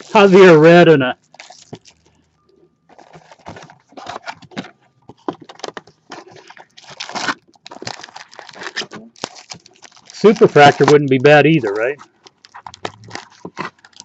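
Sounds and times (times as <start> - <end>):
wrappers crinkling and tearing: 0.0 - 0.6, 1.2 - 2.3, 2.9 - 14.0.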